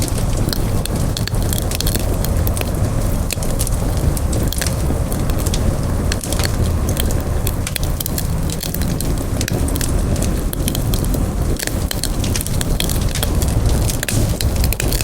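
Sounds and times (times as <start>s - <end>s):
campfire crackling and popping: 0.0s - 15.0s
rumble of fire flames: 0.0s - 15.0s.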